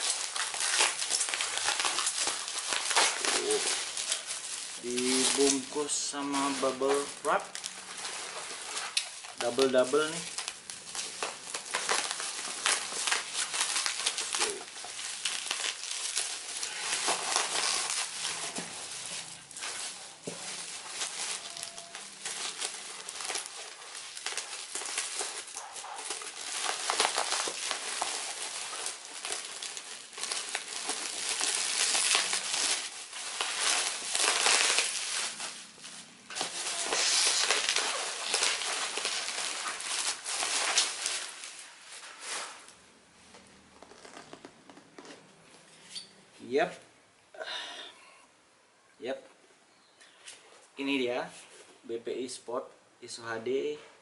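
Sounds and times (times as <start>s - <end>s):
bubble wrap crinkling: 0.0s - 46.6s.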